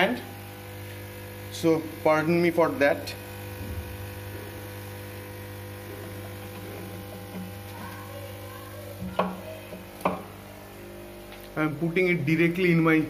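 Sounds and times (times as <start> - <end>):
aquarium equipment humming: 0.0 - 13.0.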